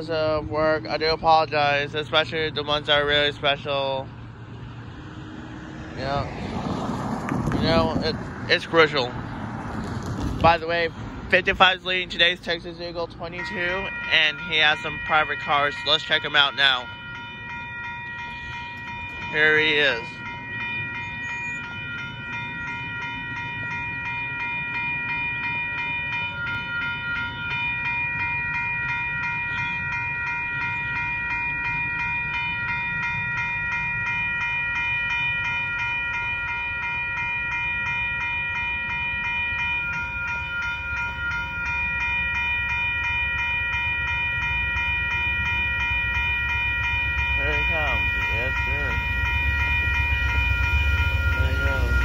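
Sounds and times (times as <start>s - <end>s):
crossing warning bells ringing: 0.0s - 52.0s
low train rumble: 0.0s - 52.0s.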